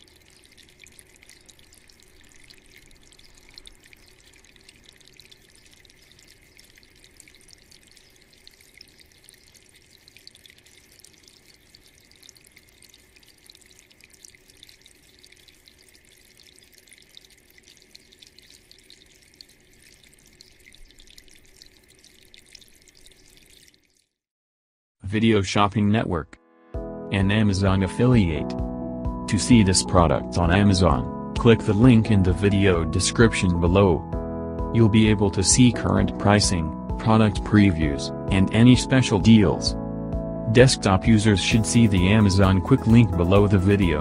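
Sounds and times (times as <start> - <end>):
fountain water trickling: 0.0 - 24.2, 29.3 - 34.0, 34.8 - 39.7, 40.5 - 44.0.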